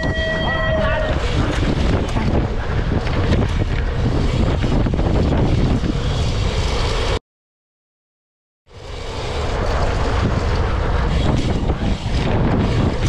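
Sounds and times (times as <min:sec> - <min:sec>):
wind rumbling on microphone: 0:00.0 - 0:07.2, 0:08.7 - 0:13.0.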